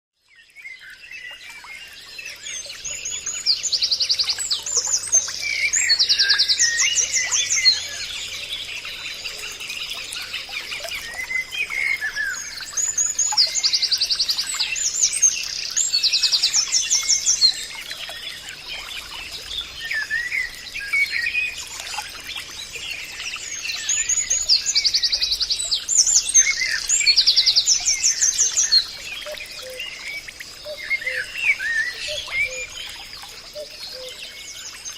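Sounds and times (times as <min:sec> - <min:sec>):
forest birds singing: 0:00.2 - 0:34.9.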